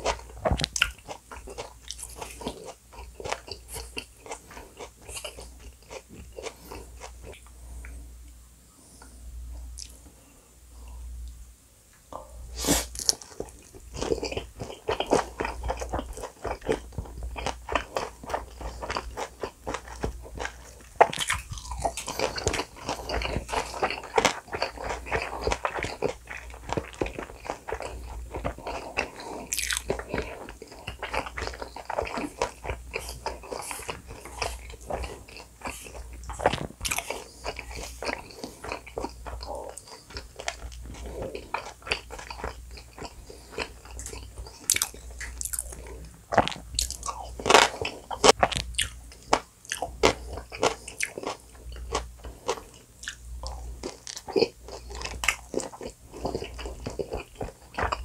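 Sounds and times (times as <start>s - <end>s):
person chewing and crunching food: 0.0s - 8.0s, 9.6s - 10.1s, 12.2s - 58.0s.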